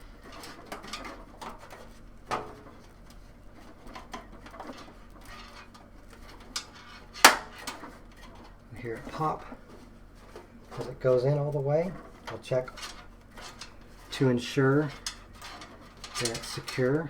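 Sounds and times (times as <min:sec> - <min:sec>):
sheet metal clicks and scrapes: 0:00.0 - 0:17.0.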